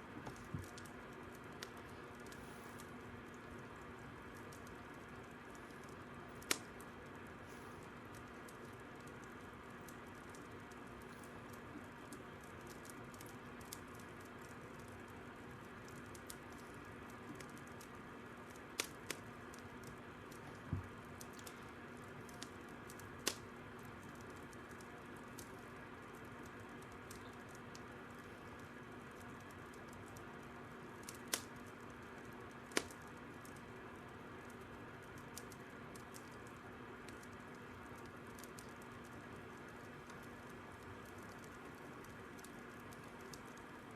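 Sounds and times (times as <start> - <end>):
fire crackling and popping: 0.0 - 43.9.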